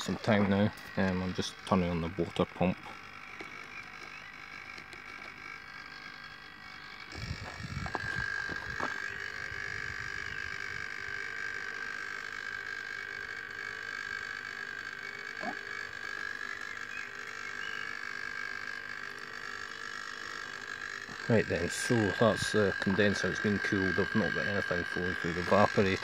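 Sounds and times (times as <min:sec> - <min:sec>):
electric pumps humming: 0:00.0 - 0:26.0.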